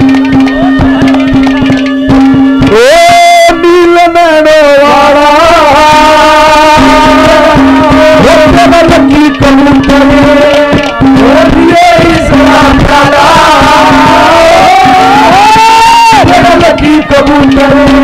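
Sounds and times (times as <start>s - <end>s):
hand drum beats: 0.0s - 4.4s, 5.1s - 18.0s
reedy melody over drone: 0.0s - 18.0s.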